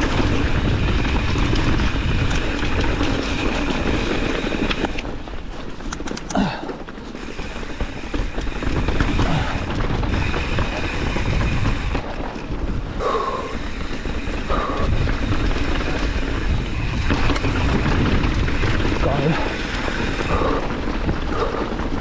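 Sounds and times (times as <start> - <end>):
bike tyres clattering on rock: 0.0 - 22.0
wind buffeting microphone: 0.0 - 22.0.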